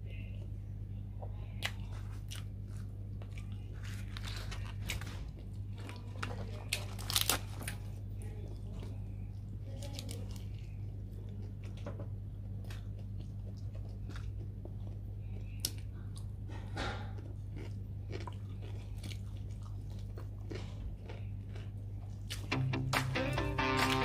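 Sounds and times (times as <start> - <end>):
low electrical hum: 0.0 - 24.0
person chewing chicken: 1.6 - 22.6.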